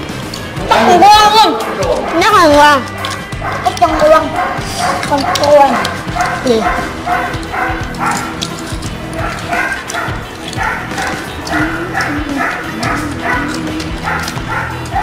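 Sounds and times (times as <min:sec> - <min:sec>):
bouncy background music: 0:00.0 - 0:15.0.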